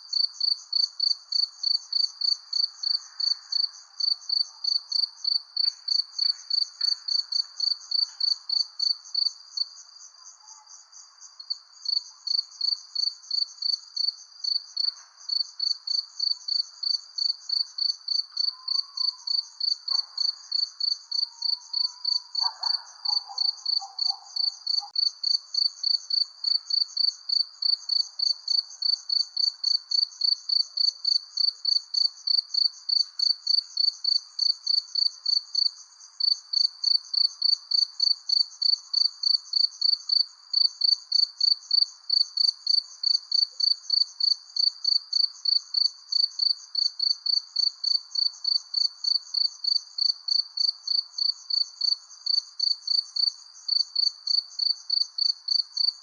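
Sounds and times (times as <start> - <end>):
cricket chirping: 0.0 - 56.0
faint night background: 0.0 - 56.0.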